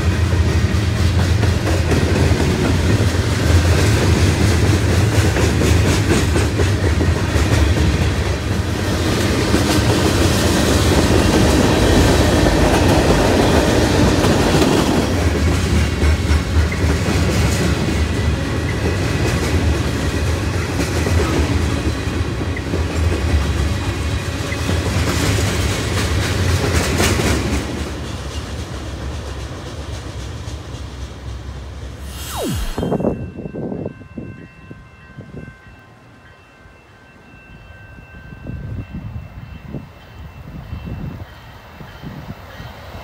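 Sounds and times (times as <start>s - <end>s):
freight train rumbling past: 0.0s - 43.0s.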